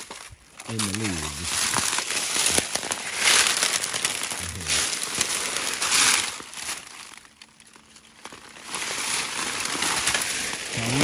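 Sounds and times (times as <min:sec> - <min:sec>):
dry leaves crunching underfoot: 0:00.0 - 0:11.0.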